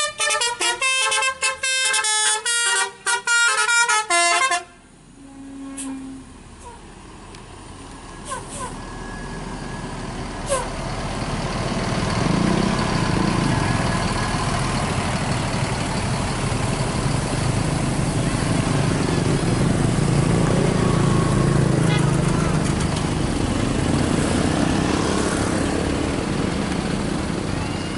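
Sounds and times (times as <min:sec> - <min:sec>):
bus diesel engine: 0:00.0 - 0:27.9.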